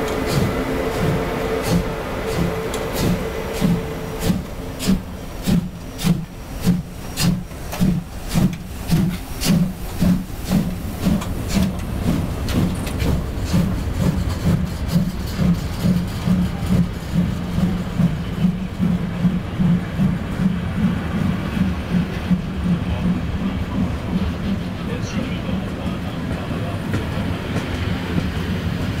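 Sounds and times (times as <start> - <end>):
steam hissing: 0.0 - 29.0
steam locomotive chuffing: 0.0 - 29.0.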